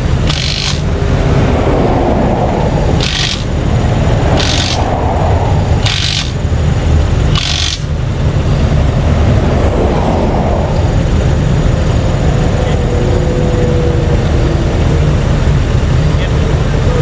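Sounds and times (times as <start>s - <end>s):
traffic rumble: 0.0s - 17.0s
vehicle passing: 0.0s - 17.0s.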